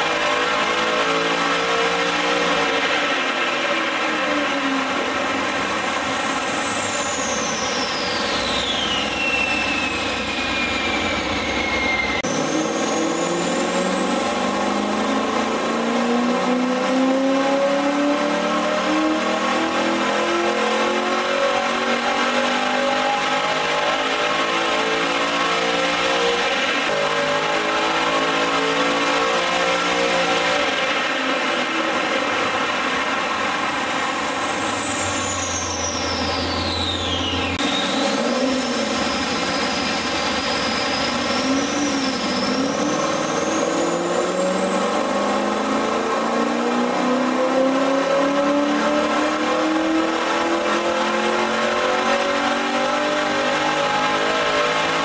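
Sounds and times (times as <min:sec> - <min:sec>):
engine at full throttle: 0:00.0 - 0:55.0.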